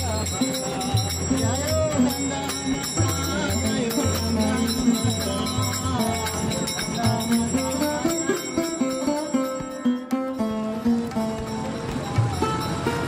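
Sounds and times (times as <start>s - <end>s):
music with bass line and melody: 0.0s - 13.0s.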